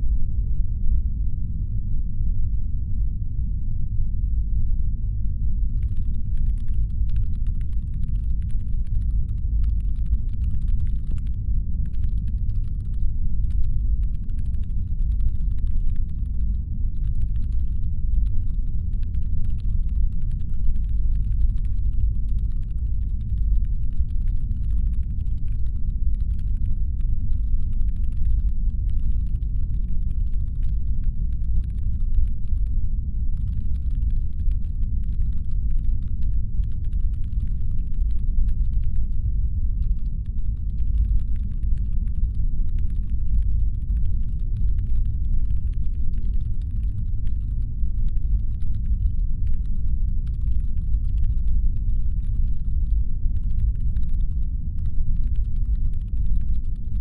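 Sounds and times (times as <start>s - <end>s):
deep spaceship engine hum: 0.0s - 57.0s
faint rapid clicking: 5.7s - 57.0s.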